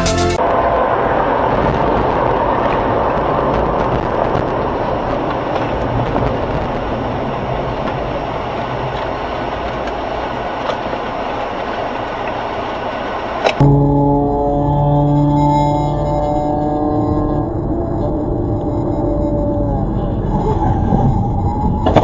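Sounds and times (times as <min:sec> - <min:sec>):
road and engine noise inside car: 0:00.4 - 0:22.0.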